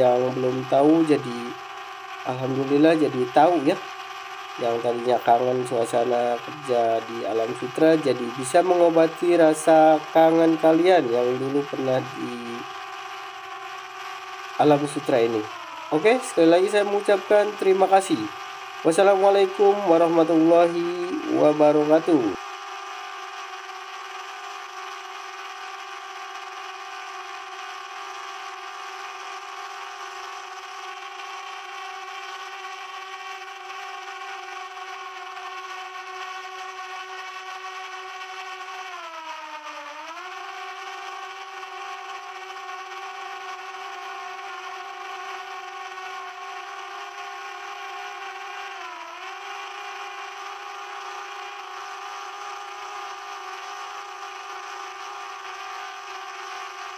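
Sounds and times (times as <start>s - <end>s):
drone motors whining: 0.0s - 56.9s.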